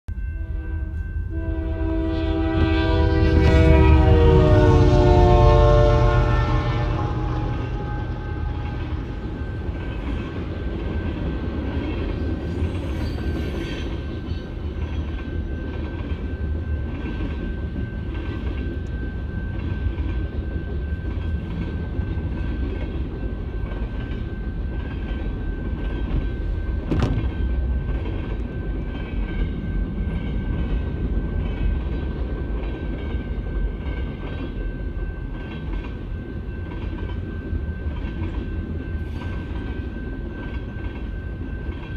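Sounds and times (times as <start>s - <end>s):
steady high tone: 0.1s - 34.0s
freight train rumbling past: 0.1s - 41.9s.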